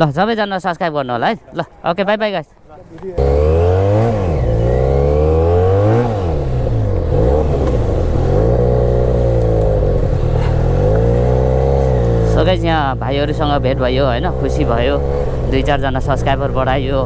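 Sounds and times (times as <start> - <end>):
motorcycle engine revving: 3.0 - 17.0.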